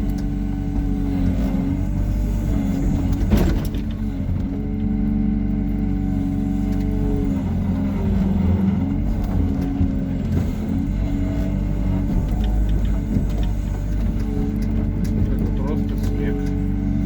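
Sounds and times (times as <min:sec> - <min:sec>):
excavator running: 0:00.0 - 0:17.0.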